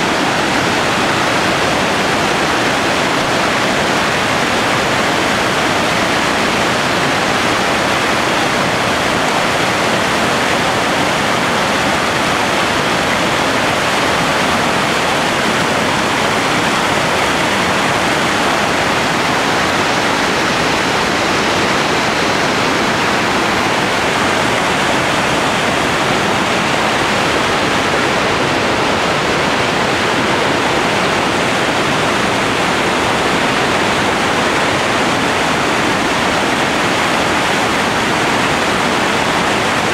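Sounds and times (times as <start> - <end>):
white water rushing: 0.0 - 39.9.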